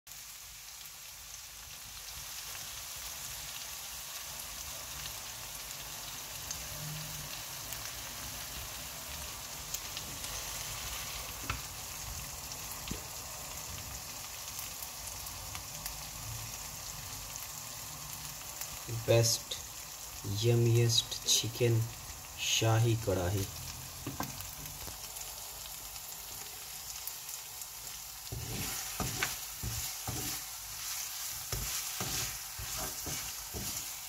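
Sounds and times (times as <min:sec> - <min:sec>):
chicken sizzling in oil: 0:00.1 - 0:34.0.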